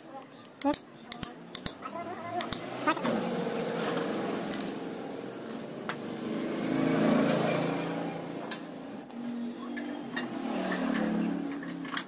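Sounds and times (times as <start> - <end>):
passing vehicle engine: 1.8 - 12.0.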